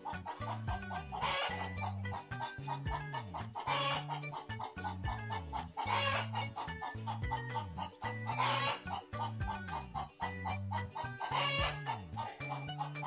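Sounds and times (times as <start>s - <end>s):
hens clucking: 0.0s - 13.0s
music with steady beat: 0.0s - 13.0s.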